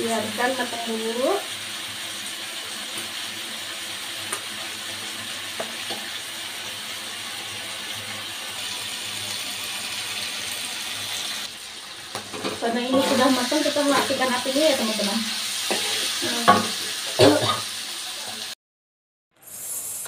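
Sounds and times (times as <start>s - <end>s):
sauce sizzling in a wok: 0.0s - 18.6s, 19.4s - 20.0s.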